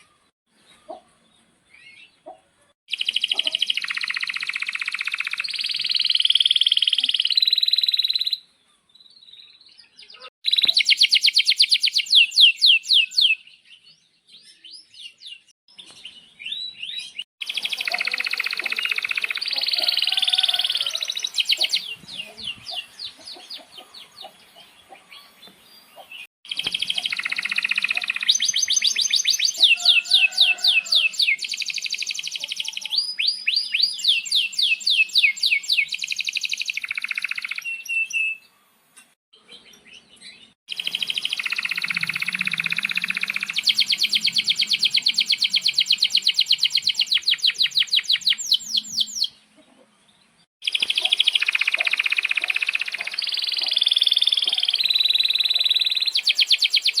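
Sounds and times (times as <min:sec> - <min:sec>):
canary singing trills: 0:01.7 - 0:08.5, 0:09.1 - 0:38.5, 0:39.4 - 0:49.4, 0:50.6 - 0:57.0.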